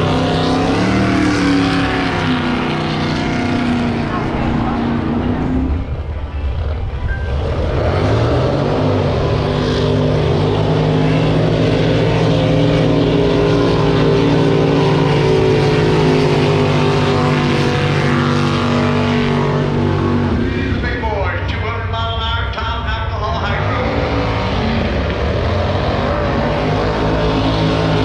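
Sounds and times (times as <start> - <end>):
drag boat engine running hard: 0.0 - 28.0.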